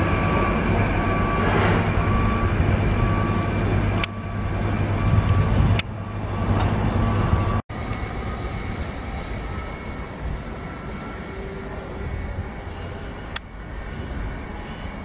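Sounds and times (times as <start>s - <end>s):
electric train approaching: 0.0s - 15.0s
freight train rumbling past: 0.0s - 15.0s.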